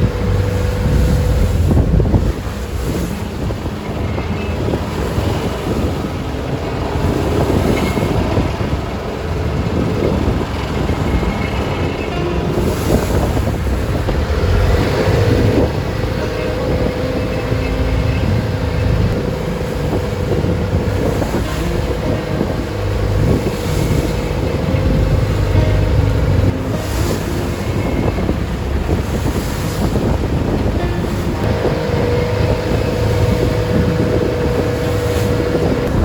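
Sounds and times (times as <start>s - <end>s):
motorboat engine droning: 0.0s - 36.0s
water splashing against hull: 0.0s - 36.0s
wind buffeting microphone: 0.0s - 36.0s.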